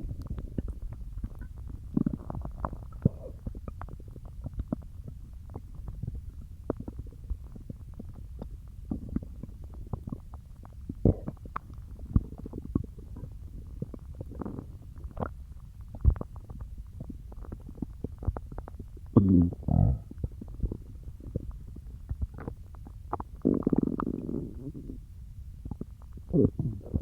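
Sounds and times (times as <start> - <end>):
stomach gurgling: 0.0 - 27.0.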